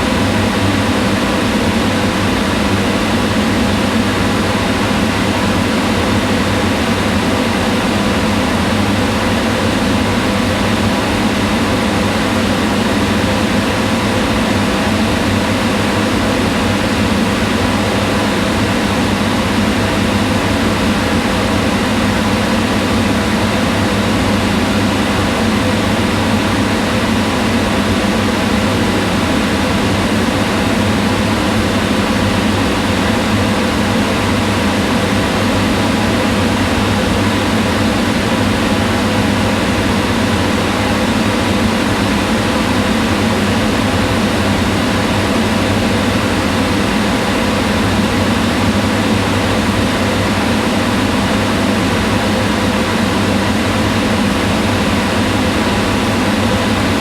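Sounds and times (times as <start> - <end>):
range hood exhaust fan running: 0.0 - 57.0.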